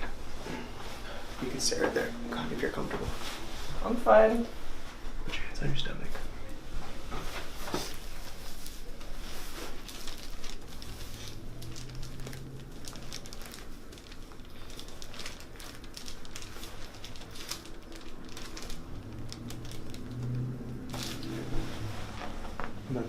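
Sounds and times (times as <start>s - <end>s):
rustling and crinkling: 0.0s - 5.2s, 6.0s - 23.0s.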